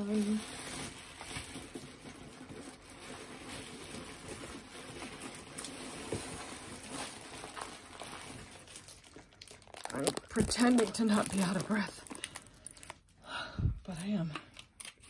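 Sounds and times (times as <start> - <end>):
plastic bags rustling: 0.0 - 13.3.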